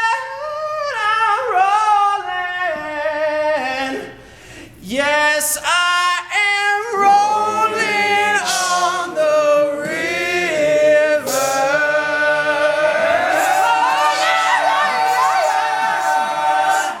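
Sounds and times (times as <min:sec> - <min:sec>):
male a cappella group singing: 0:00.0 - 0:17.0.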